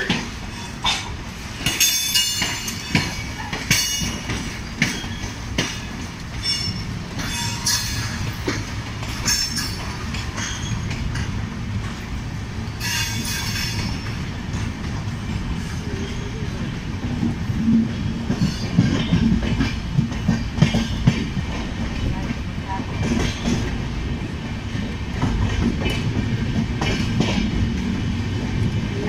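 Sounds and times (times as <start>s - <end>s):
clickety-clack at rail joints: 0.0s - 29.0s
train wheels rumbling on track: 0.0s - 29.0s.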